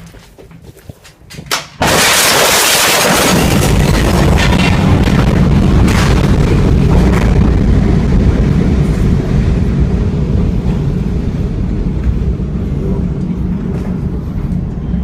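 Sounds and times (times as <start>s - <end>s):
deep explosion rumble: 1.8s - 15.0s.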